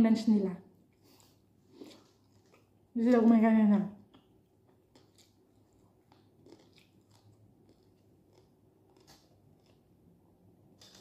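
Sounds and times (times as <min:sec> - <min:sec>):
chewing fried fish: 0:01.0 - 0:02.9, 0:04.0 - 0:11.0.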